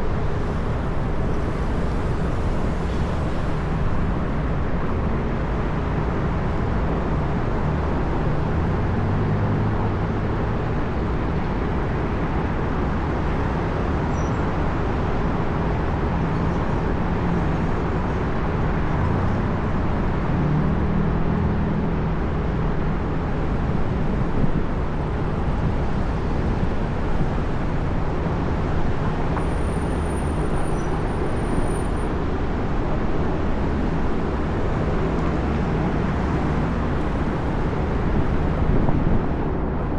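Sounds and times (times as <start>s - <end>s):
passing vehicles: 0.0s - 39.9s.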